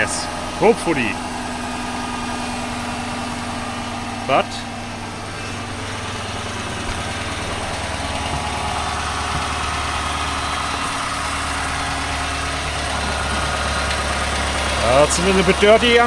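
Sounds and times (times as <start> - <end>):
car engine idling: 0.0 - 16.0
engine ticking noise: 0.0 - 16.0.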